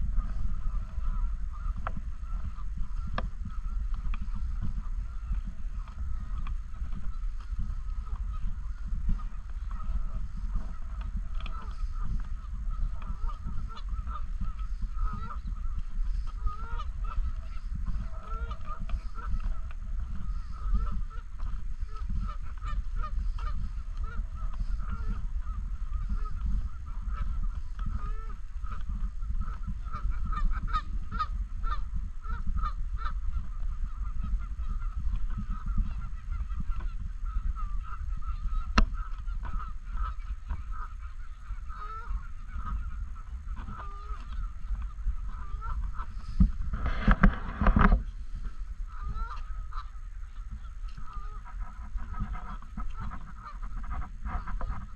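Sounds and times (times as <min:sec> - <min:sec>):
geese honking: 0:00.0 - 0:54.9
steady low rumble: 0:00.0 - 0:54.9.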